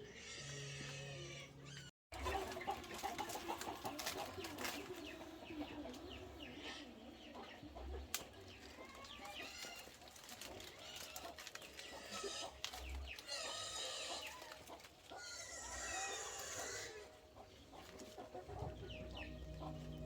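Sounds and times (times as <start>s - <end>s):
chickens clucking: 0.1s - 20.0s.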